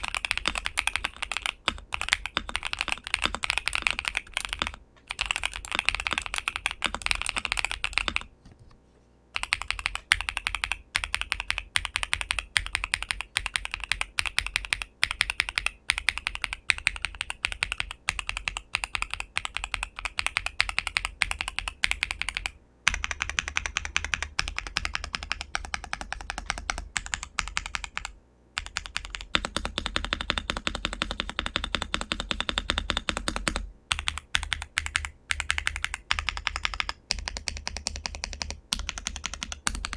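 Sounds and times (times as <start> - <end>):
fast mechanical keyboard typing: 0.0 - 8.3, 9.4 - 39.9.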